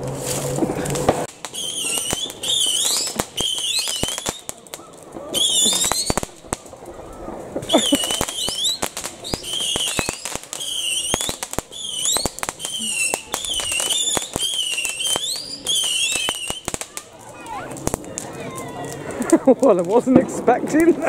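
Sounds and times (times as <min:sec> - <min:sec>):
fireworks crackling and popping: 0:00.0 - 0:21.0
fireworks whistling: 0:00.0 - 0:21.0.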